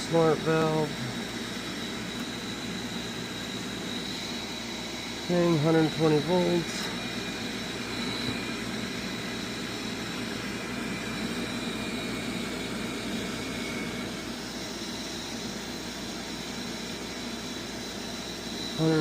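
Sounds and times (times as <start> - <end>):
faint high whine: 0.0 - 19.0
furnace fan whooshing: 0.0 - 19.0.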